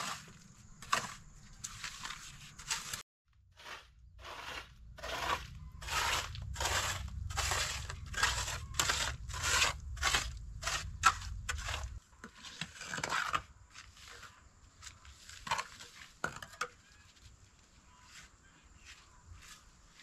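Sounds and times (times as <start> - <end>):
hand tool scraping gritty material: 0.0 - 20.0.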